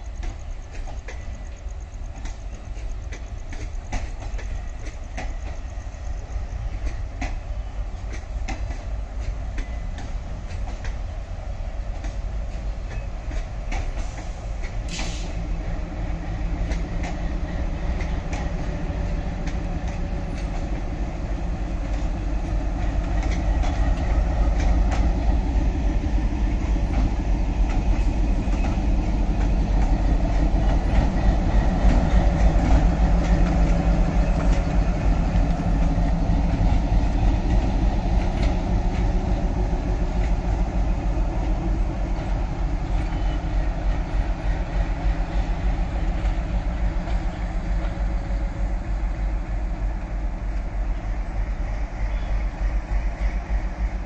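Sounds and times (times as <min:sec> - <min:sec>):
diesel locomotive engine running: 0:00.0 - 0:54.0
wheels clicking over rail joints: 0:00.0 - 0:54.0.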